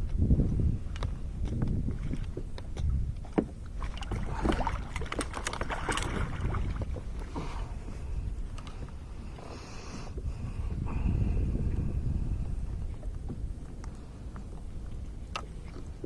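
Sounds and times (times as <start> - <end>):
low rumble of wind and water: 0.0 - 16.0
water splashing and sloshing: 0.0 - 16.0.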